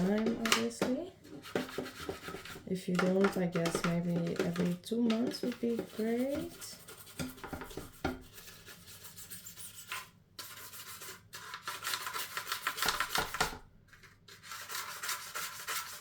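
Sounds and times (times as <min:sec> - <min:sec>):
toothbrush scrubbing plastic: 0:00.0 - 0:16.0.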